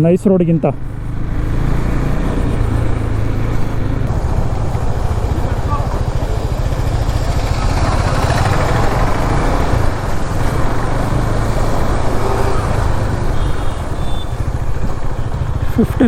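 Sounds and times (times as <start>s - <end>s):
motorcycle engine: 0.0s - 16.0s
wind rushing: 0.8s - 15.1s.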